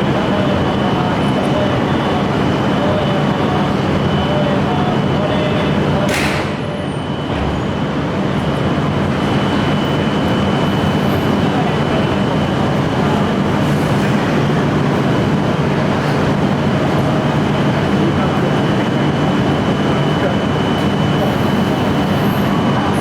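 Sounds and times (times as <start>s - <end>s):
train equipment humming: 0.0s - 23.0s.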